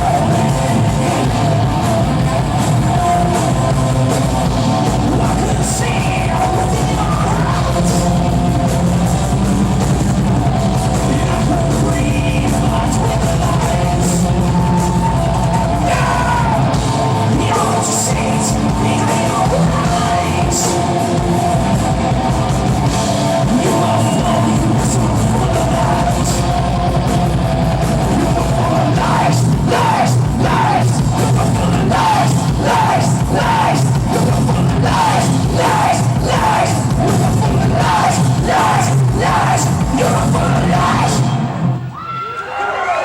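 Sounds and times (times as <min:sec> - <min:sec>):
live heavy rock band: 0:00.0 - 0:42.0
yelled singing: 0:00.0 - 0:43.0.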